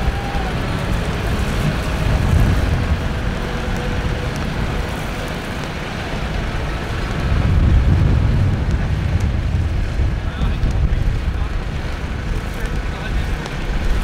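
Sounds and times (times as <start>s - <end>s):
tractor engine rumbling: 0.0s - 14.0s
wind buffeting microphone: 0.0s - 14.0s.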